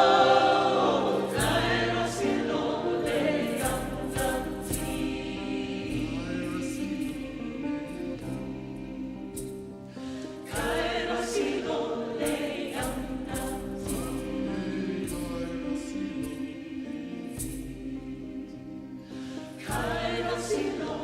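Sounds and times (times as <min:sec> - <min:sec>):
vocal ensemble singing in harmony: 0:00.0 - 0:21.0.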